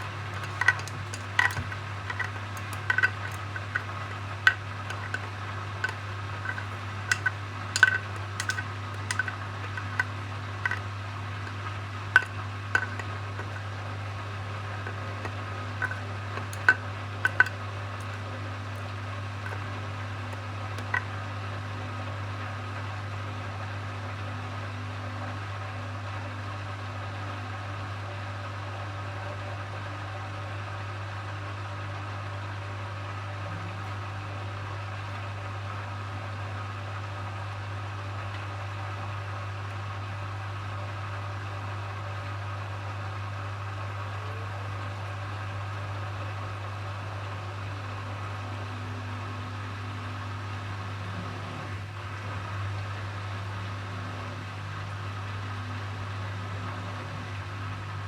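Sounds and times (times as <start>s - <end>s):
washing machine spinning: 0.0s - 25.1s, 32.9s - 58.0s.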